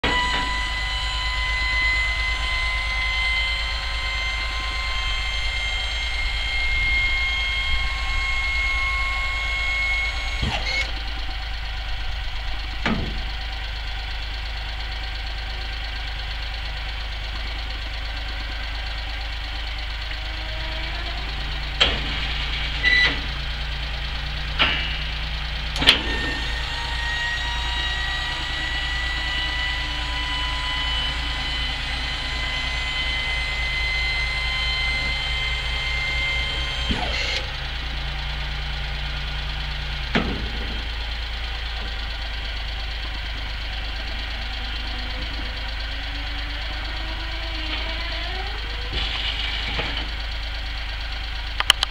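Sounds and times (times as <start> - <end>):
lift pump whine: 0.0 - 51.9
truck engine idling: 0.0 - 51.9.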